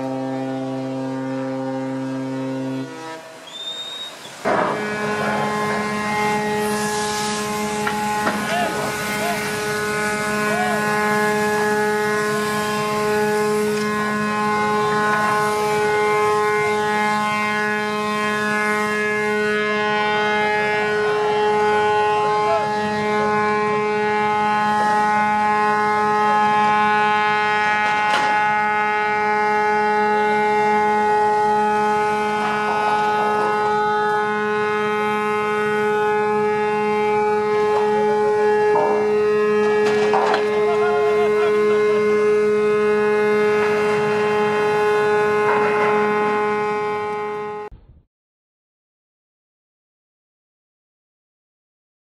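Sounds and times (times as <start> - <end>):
ship's horn long blast: 0.0 - 47.9.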